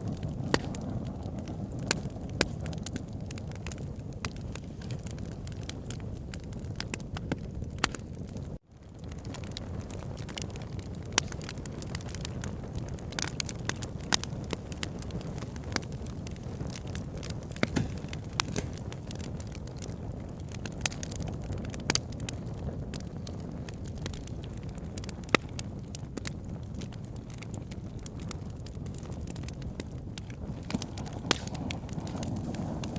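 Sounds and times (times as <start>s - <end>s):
low rush of flame: 0.0s - 32.9s
wood fire crackling: 0.0s - 32.9s.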